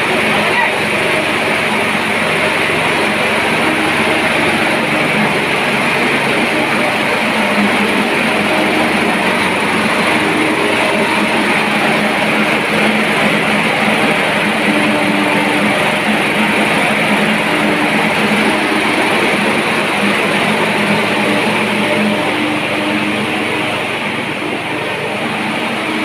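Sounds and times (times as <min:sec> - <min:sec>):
smoke ejector blower running: 0:00.0 - 0:26.0.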